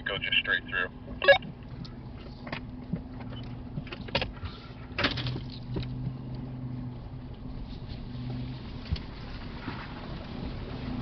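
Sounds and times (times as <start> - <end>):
vehicle engine running at low revs: 0.1 - 11.0.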